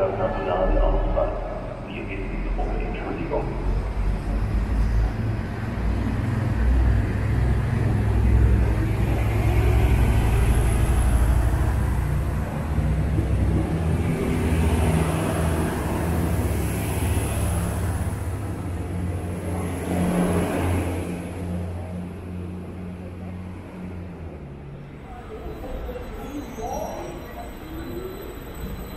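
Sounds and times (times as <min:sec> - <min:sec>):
diesel train engines droning: 0:00.0 - 0:28.9.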